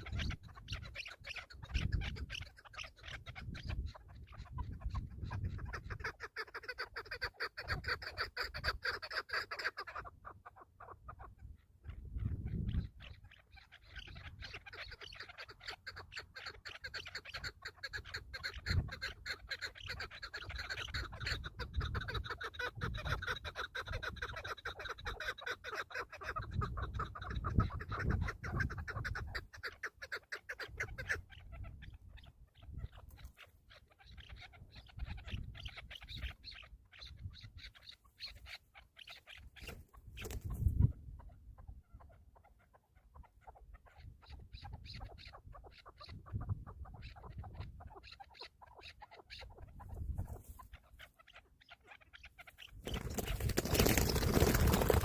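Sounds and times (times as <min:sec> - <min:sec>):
partridge clucking chatter: 0:00.0 - 0:11.3, 0:11.9 - 0:40.9, 0:42.0 - 0:55.0.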